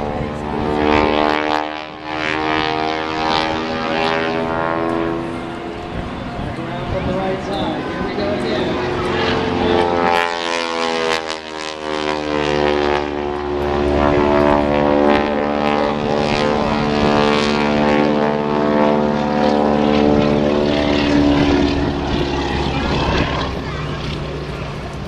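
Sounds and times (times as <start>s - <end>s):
propeller airplane droning: 0.0s - 25.0s.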